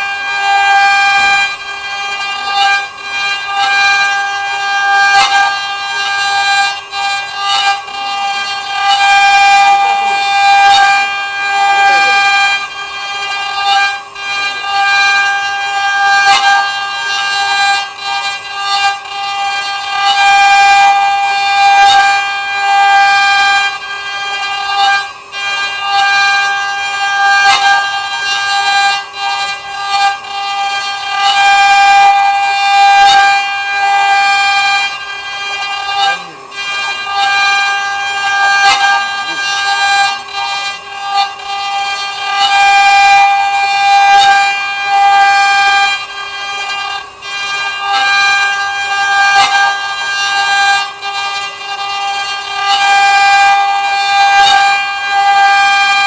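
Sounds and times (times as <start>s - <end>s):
router spindle cutting wood: 0.0s - 56.0s.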